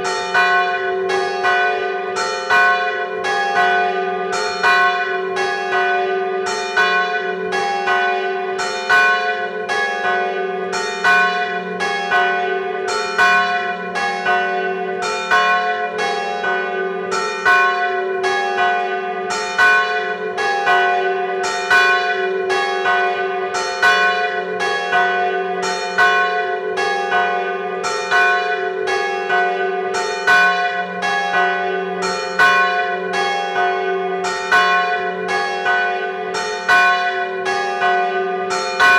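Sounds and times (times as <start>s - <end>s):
church bells tolling: 0.0s - 38.9s.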